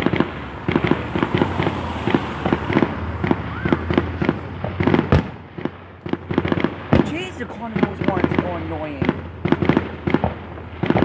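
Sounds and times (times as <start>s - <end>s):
deep firework boom: 0.0s - 11.0s
fireworks popping: 0.0s - 11.0s.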